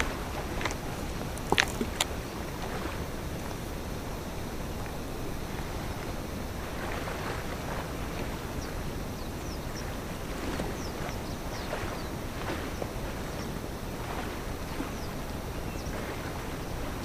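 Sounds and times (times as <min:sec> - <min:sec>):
moving water: 0:00.0 - 0:17.0
wind: 0:00.0 - 0:17.0.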